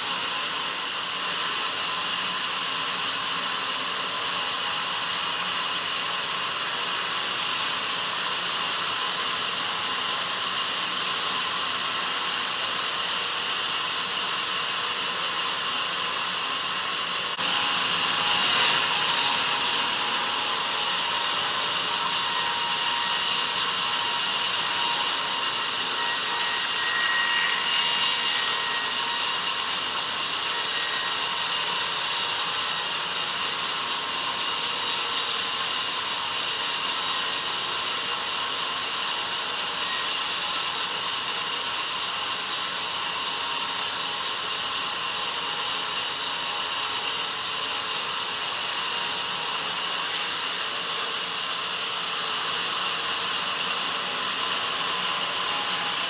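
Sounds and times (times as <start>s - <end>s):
band saw cutting log: 0.0s - 4.2s, 14.9s - 56.0s.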